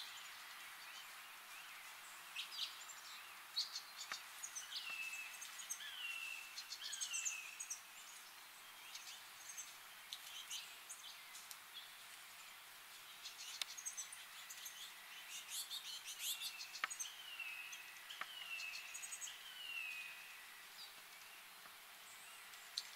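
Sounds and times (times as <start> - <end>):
faint insect hiss: 0.0 - 22.9
wild birds chirping: 0.0 - 22.9.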